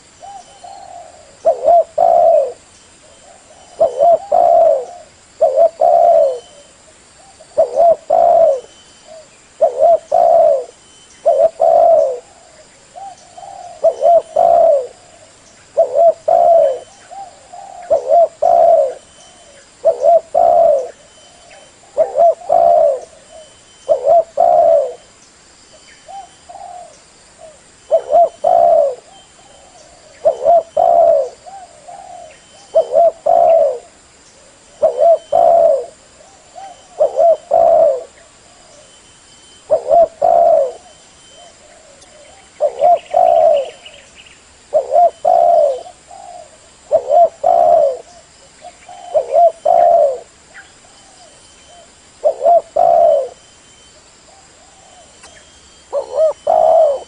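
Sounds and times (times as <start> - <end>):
dove cooing: 0.0 - 25.1, 26.0 - 39.0, 39.6 - 53.4, 54.2 - 57.0.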